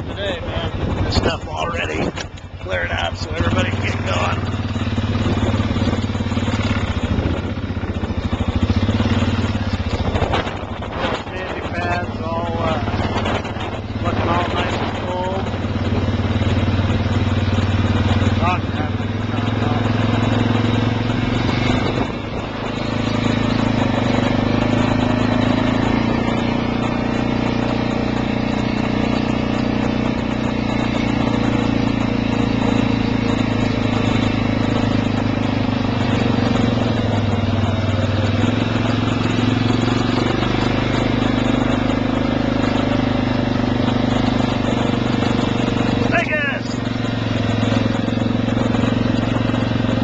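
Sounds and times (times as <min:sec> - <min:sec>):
quad bike engine running: 0:00.0 - 0:50.0.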